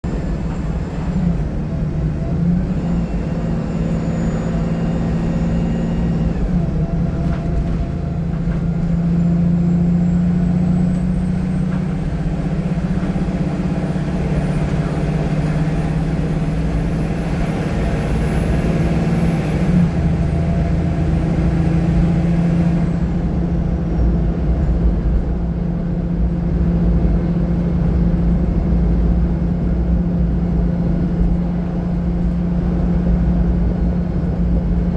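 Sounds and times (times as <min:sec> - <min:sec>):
bus engine drone: 0:00.0 - 0:34.9.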